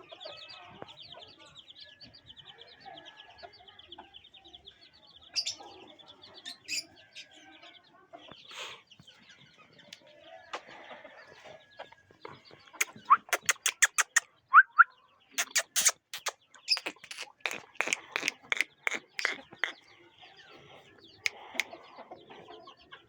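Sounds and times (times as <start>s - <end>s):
chicks peeping and clucking: 0.0s - 23.0s.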